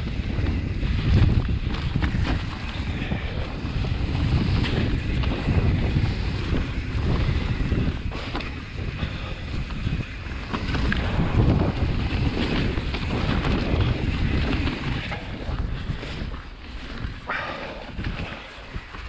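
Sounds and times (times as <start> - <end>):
tyre noise on dirt: 0.0 - 19.0
wind buffeting microphone: 0.0 - 19.0
bike clicks and knocks: 0.1 - 17.2.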